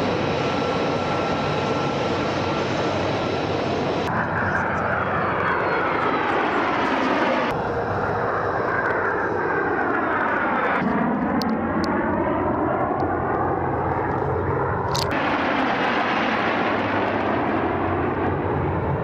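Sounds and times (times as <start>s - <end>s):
aircraft engines roaring overhead: 0.0s - 19.0s.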